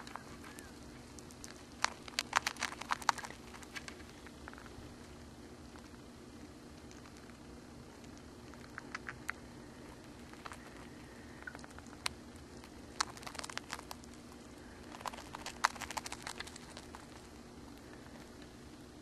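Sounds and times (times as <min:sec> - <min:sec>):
hamster crunching cracker: 0:00.0 - 0:18.6
faint steady hum: 0:00.0 - 0:19.0.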